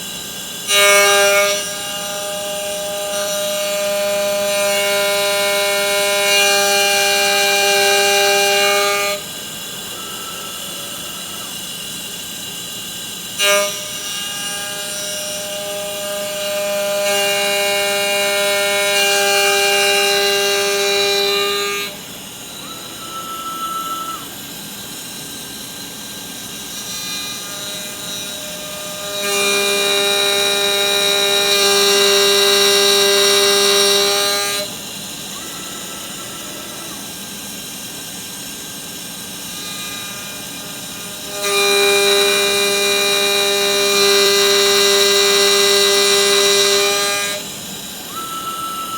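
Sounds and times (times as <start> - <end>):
machine spindle cutting: 0.0 - 48.9.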